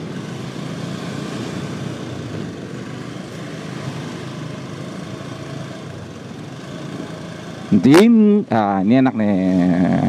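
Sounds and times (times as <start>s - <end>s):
motorcycle engine hum: 0.0s - 10.0s.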